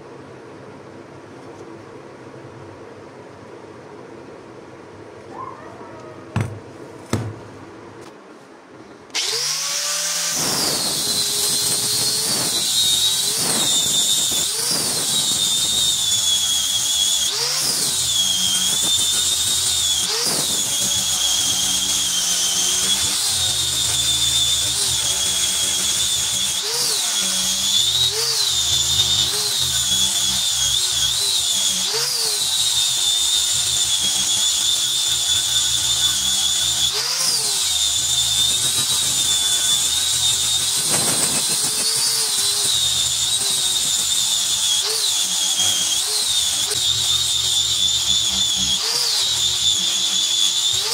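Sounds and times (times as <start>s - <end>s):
power grinder whining on steel: 9.1s - 50.9s.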